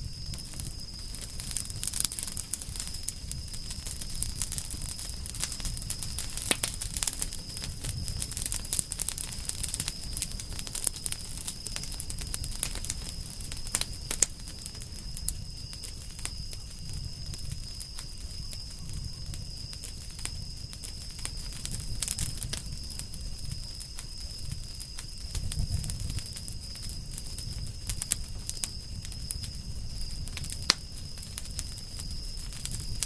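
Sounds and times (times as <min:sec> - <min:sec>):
burning logs popping and snapping: 0:00.0 - 0:33.0
low rumble of flames: 0:00.0 - 0:33.0.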